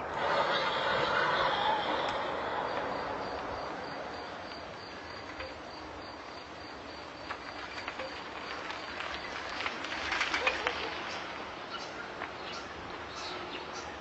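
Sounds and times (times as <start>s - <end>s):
crickets chirping: 0.0s - 14.0s
faint outdoor hiss: 0.0s - 14.0s.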